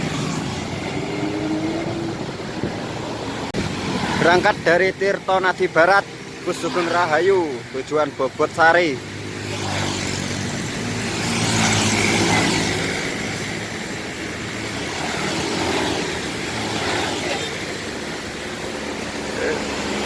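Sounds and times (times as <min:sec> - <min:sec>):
bus diesel engine: 0:00.0 - 0:20.0
road noise hiss: 0:00.0 - 0:20.0.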